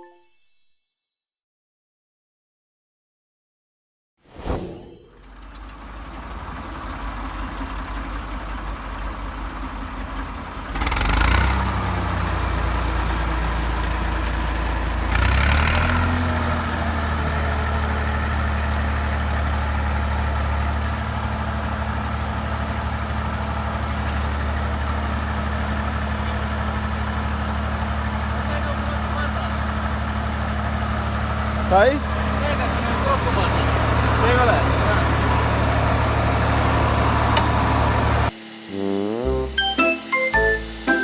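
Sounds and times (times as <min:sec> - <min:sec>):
tractor diesel engine running: 0:05.4 - 0:38.4, 0:39.6 - 0:41.0.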